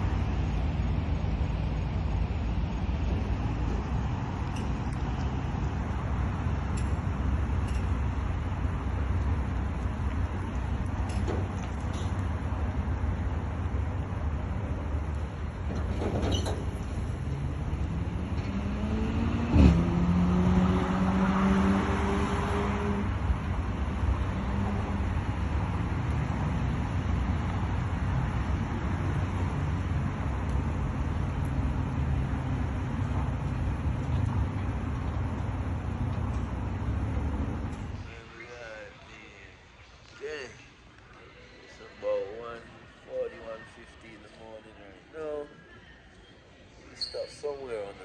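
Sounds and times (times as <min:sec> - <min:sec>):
vehicle rumbling on road: 0:00.0 - 0:39.2.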